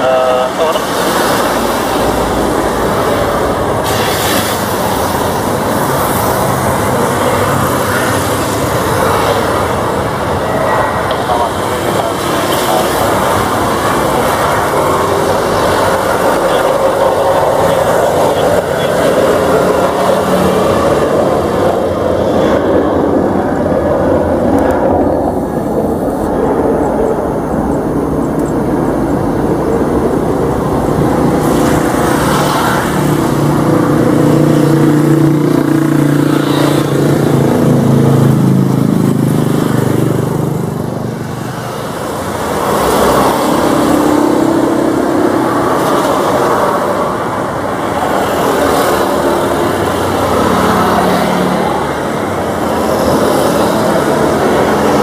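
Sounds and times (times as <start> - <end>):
jet engines roaring at take-off: 0.0 - 55.0.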